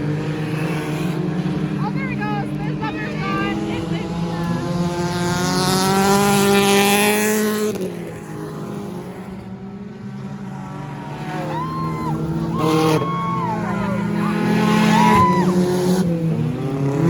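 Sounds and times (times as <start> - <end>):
hum of race engines: 0.0 - 17.0
race car passing close: 0.0 - 17.0.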